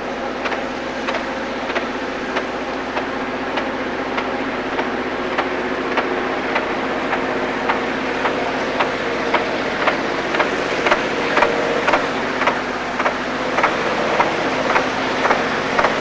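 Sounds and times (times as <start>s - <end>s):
low engine hum: 0.0s - 16.0s
rhythmic sharp clicks: 0.3s - 16.0s.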